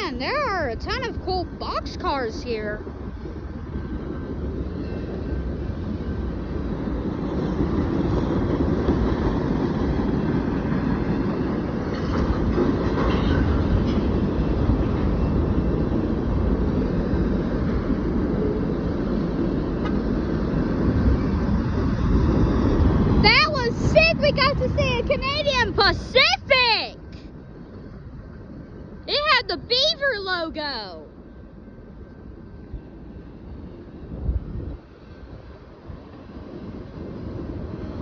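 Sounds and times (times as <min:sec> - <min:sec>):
freight train rumbling past: 0:00.0 - 0:38.0.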